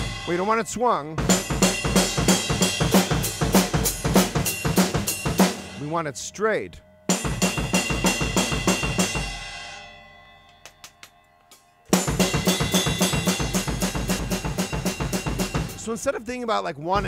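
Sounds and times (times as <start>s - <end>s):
drum kit groove: 0.0s - 6.2s, 7.1s - 9.9s, 11.9s - 17.0s.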